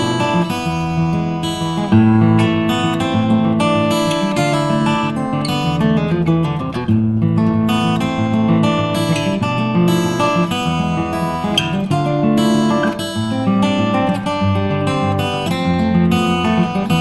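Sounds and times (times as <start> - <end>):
strummed acoustic guitar chords: 0.0 - 17.0.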